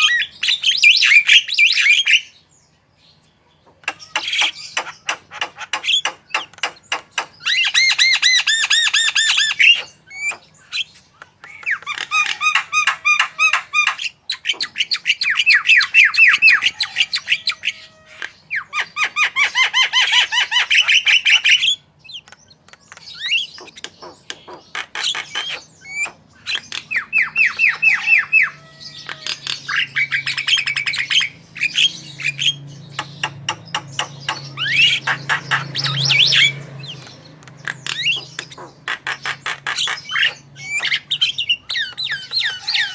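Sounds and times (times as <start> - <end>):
bird singing chattering notes: 0.0 - 42.9.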